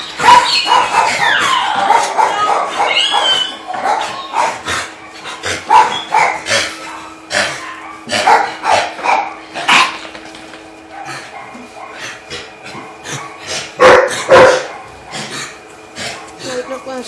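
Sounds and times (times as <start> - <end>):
dogs barking: 0.0 - 17.0.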